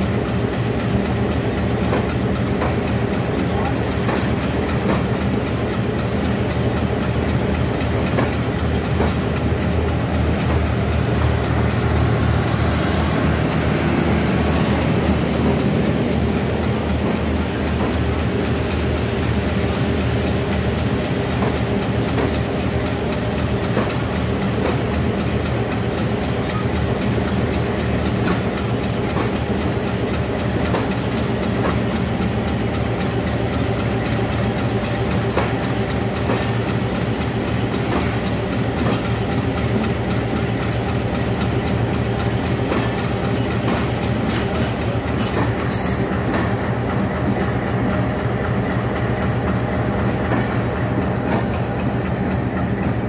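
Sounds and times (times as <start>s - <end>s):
train wheels clattering over rails: 0.0s - 53.0s.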